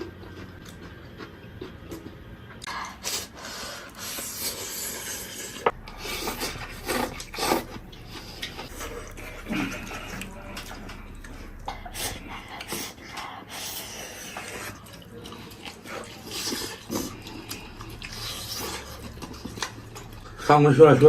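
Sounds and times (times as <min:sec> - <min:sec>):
person chewing: 0:00.0 - 0:20.5.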